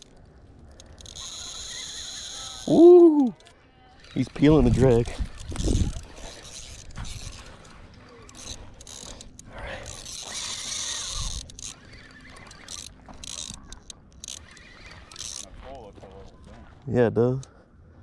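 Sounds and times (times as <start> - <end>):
fishing reel ratcheting and whirring: 0.0 - 16.5.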